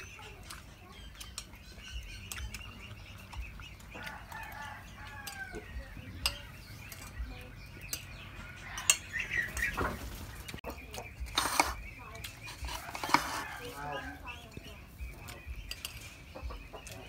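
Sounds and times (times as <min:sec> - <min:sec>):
spoons clinking on plates: 0:00.0 - 0:09.7, 0:10.9 - 0:17.0
chicken clucking: 0:00.0 - 0:17.0.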